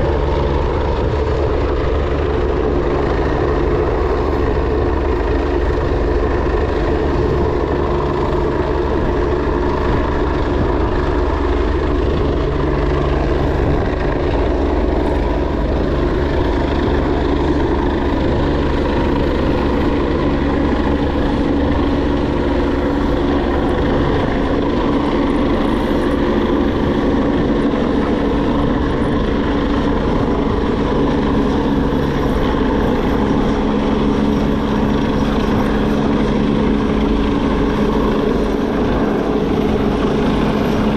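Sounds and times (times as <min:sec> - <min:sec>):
loud engine drone: 0:00.0 - 0:40.9
low rumble: 0:00.0 - 0:40.9.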